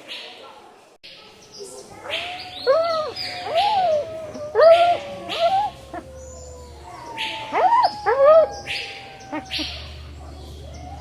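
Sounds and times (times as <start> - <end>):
animal cries: 2.0 - 11.0.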